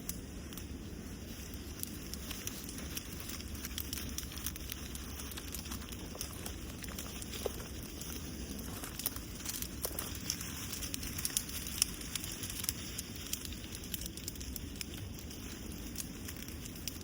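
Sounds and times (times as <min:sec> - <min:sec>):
foliage rustling and crackling: 0:00.0 - 0:17.0
wind rumbling on microphone: 0:00.0 - 0:17.0.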